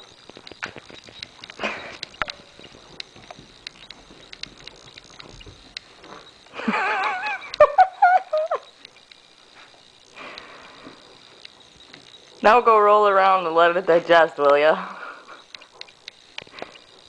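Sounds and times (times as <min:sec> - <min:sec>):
claws ticking: 0:00.0 - 0:17.0.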